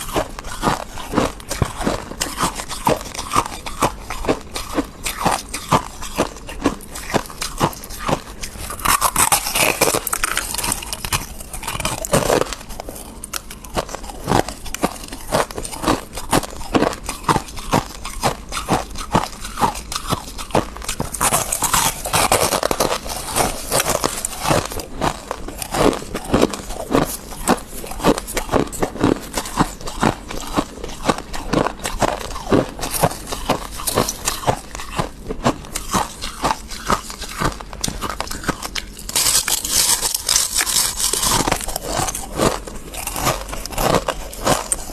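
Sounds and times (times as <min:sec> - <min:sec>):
person chewing frost crunchily: 0:00.0 - 0:44.9.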